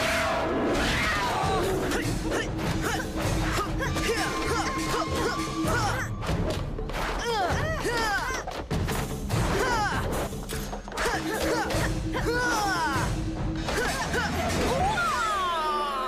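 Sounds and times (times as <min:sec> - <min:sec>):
action music: 0:00.0 - 0:16.0.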